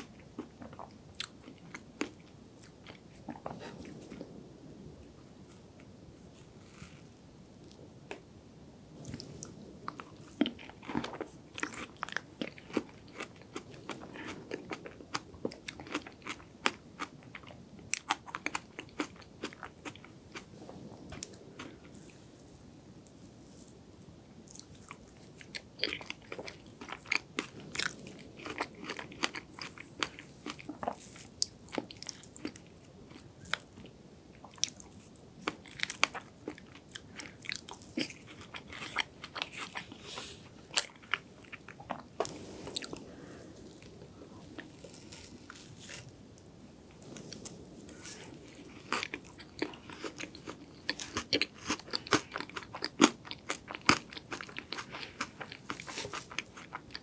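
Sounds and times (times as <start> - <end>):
chewing crunchy cake: 0.0 - 4.3, 9.0 - 22.2, 24.5 - 46.1, 47.0 - 57.0.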